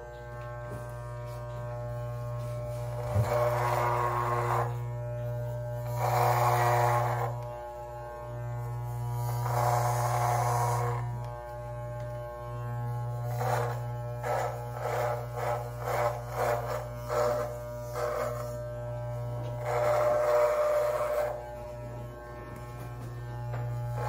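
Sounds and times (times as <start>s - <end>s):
electric beard trimmer buzzing: 0.0s - 24.0s
trimmer blades rasping through hair: 0.0s - 24.0s.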